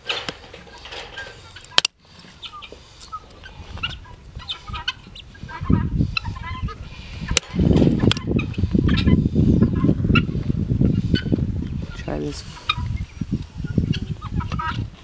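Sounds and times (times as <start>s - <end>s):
chickens clucking: 0.0s - 15.0s
low rumbling noise: 0.0s - 15.0s.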